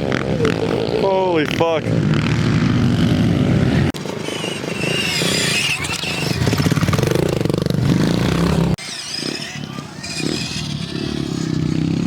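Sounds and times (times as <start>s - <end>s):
pit bike engines revving: 0.0s - 12.0s.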